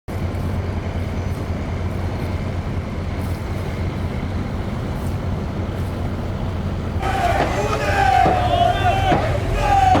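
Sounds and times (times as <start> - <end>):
vehicle running low rumble: 0.1 - 10.0.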